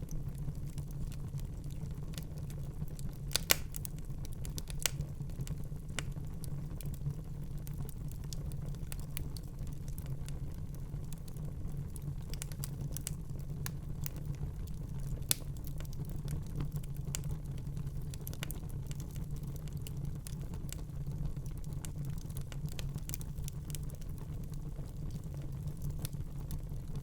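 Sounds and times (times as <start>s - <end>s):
fire crackling and popping: 0.0s - 27.0s
low rumble of fire: 0.0s - 27.0s.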